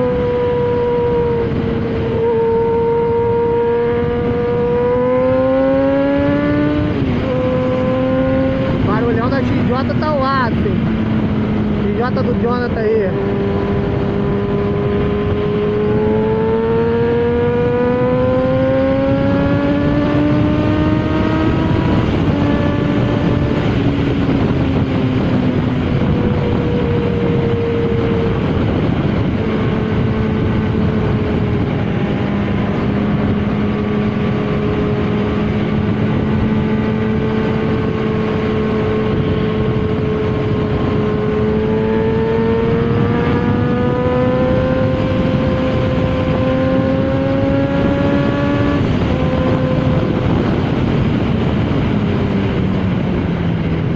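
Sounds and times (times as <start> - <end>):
motorcycle engine accelerating: 0.0 - 53.9
road noise: 0.0 - 53.9
wind noise: 0.0 - 53.9.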